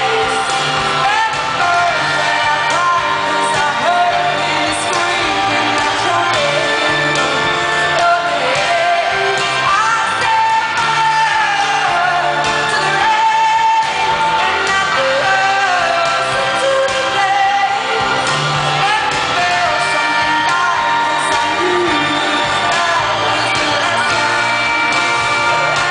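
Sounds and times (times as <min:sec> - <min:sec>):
band with electric guitar: 0:00.0 - 0:25.9
woman singing pop ballad: 0:00.0 - 0:25.9.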